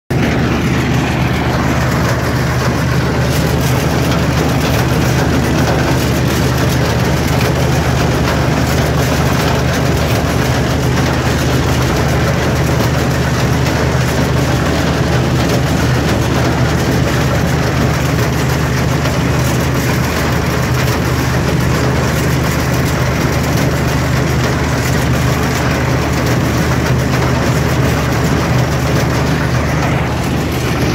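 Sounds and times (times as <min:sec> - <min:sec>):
combine harvester machinery drone: 0:00.1 - 0:30.9.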